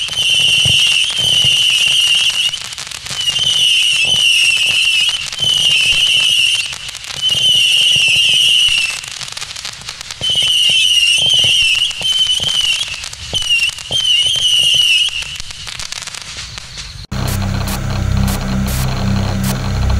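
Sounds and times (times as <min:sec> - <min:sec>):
small firework pops: 0:00.0 - 0:17.1
firework whistling: 0:00.0 - 0:19.9.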